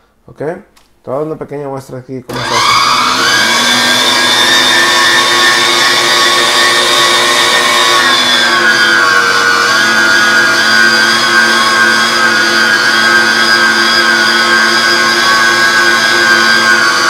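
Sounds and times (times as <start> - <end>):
electric meat grinder motor whine: 2.3 - 17.0.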